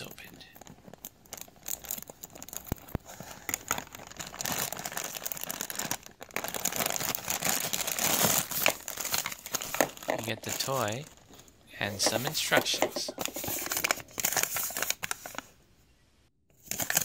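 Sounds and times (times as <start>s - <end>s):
plastic bag crinkling and tearing: 0.0s - 15.5s, 16.6s - 17.0s.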